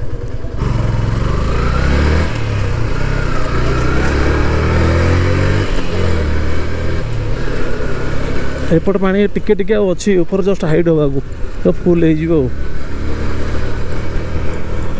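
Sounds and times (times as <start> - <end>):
motorcycle engine accelerating: 0.0 - 9.3, 11.3 - 14.9.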